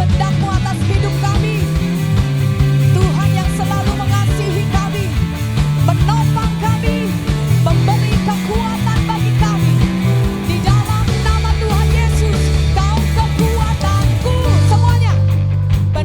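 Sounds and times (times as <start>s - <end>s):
bass line: 0.0s - 16.0s
drum kit beat: 0.0s - 16.0s
electric guitar lead lines: 0.0s - 16.0s
live rock band playing: 0.0s - 16.0s.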